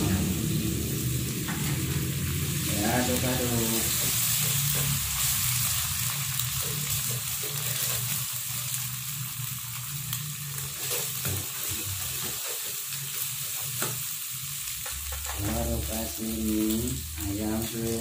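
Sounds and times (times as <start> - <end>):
egg sizzling in oil: 0.0 - 18.0.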